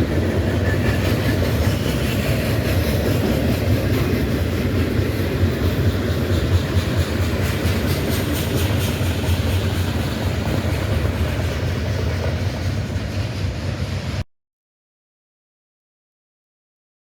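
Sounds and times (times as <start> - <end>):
train wheels rumbling on rail: 0.0 - 14.2.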